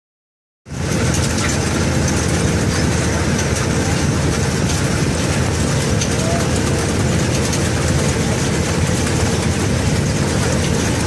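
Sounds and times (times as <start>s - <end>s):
engine running with low hum: 0.7s - 11.0s.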